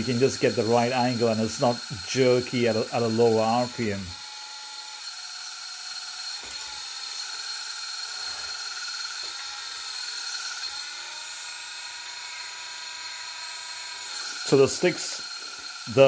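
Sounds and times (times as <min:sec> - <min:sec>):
small hydraulic pump whining: 0:00.0 - 0:16.0.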